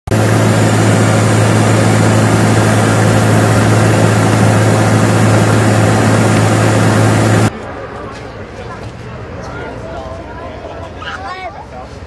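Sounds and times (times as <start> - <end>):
aircraft engines droning: 0.1 - 11.0.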